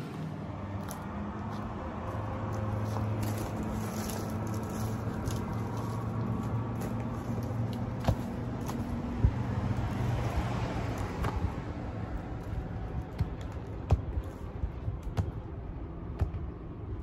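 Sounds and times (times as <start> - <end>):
distant traffic hum: 0.0 - 17.0
twigs crackling and snapping: 0.8 - 15.5.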